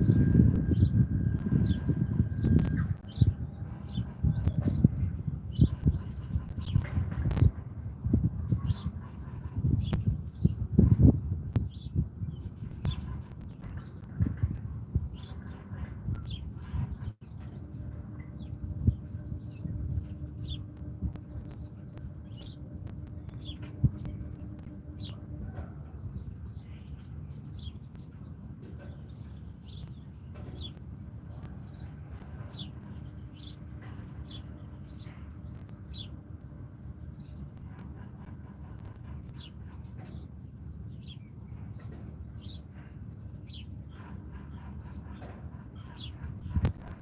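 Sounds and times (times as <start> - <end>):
small songbirds chirping: 0.0 - 47.0
steady low rumble: 0.0 - 47.0.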